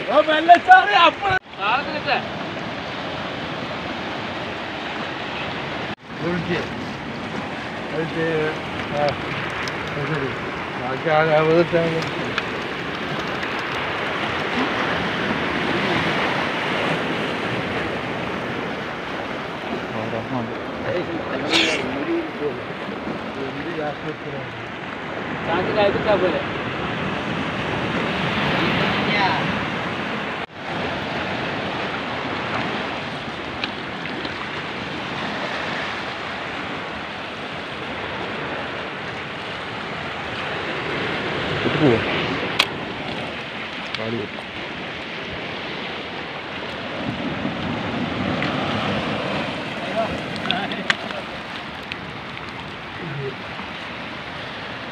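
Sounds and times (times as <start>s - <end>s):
surf washing onto rocks: 0.0s - 54.9s.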